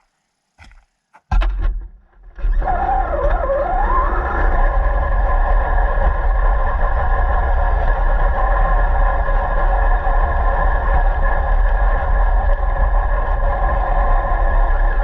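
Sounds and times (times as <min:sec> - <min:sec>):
rc car motor whine: 0:02.4 - 0:15.0.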